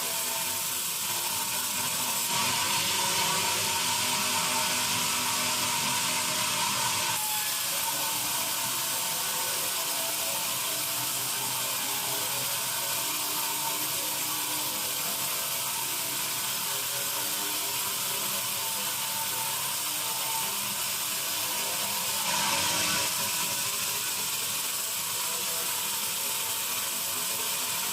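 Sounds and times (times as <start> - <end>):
band saw hissing: 0.0 - 27.9.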